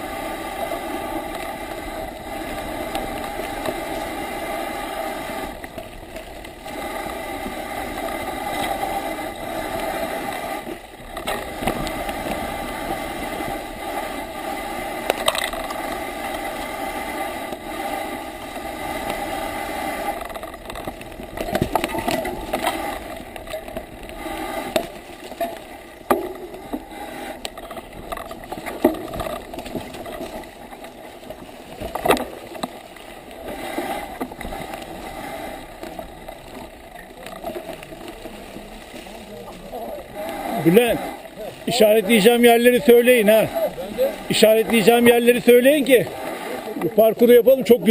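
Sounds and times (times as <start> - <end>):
bicycle knocks and rattles over bumps: 0.0 - 42.9
bicycle riding rushing noise: 0.0 - 47.9.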